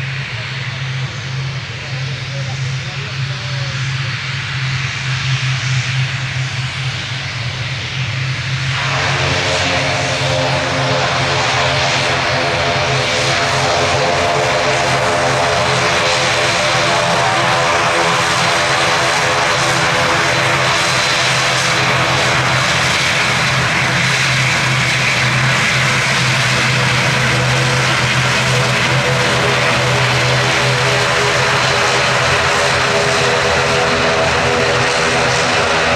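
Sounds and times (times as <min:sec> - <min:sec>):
low propeller hum: 0:00.0 - 0:35.9
steady engine tones: 0:00.0 - 0:35.9.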